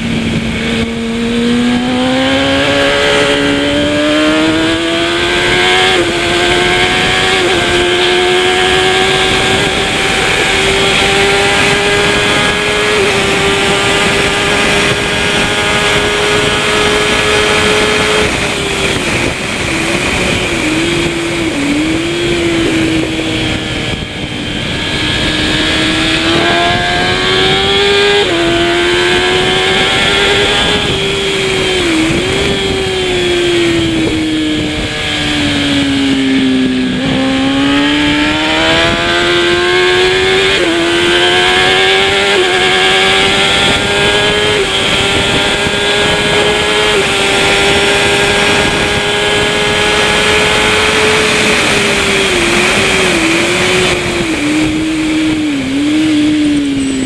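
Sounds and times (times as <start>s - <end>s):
superbike engine at high revs: 0.0s - 57.0s
wind noise: 0.0s - 57.0s.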